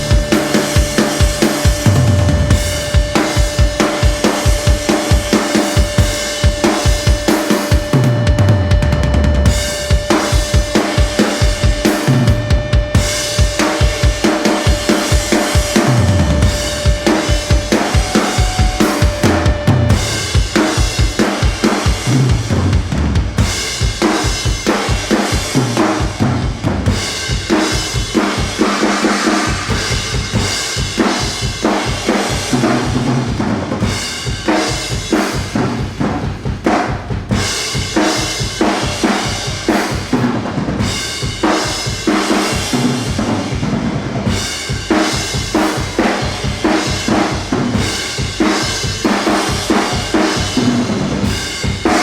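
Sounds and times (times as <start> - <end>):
drum kit steady beat: 0.0 - 52.0.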